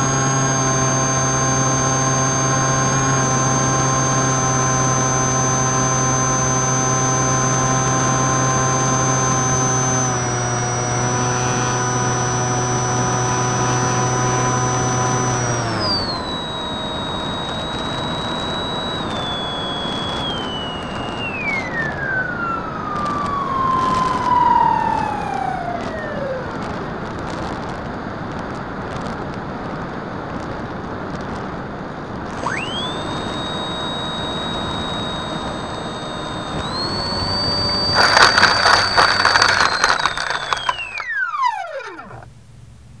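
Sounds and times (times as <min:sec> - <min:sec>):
ultralight aircraft engine: 0:00.0 - 0:43.0.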